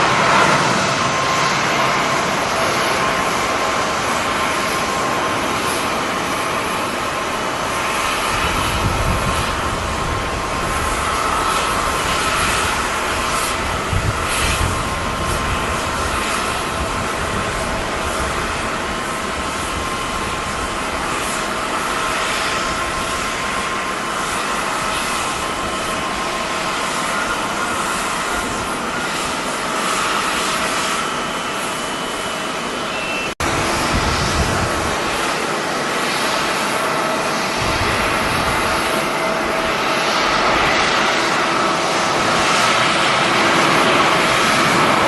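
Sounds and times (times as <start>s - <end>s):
wind buffeting microphone: 0.0s - 31.6s, 33.4s - 45.0s
jet engines whining: 0.0s - 45.0s.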